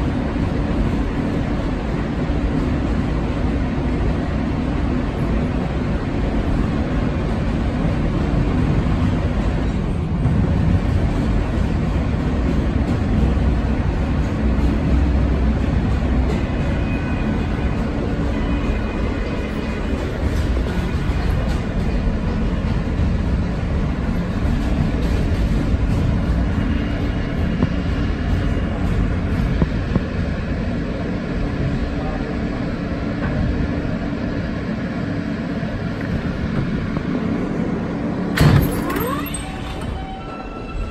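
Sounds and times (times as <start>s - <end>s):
subway car rolling rumble: 0.0s - 40.9s.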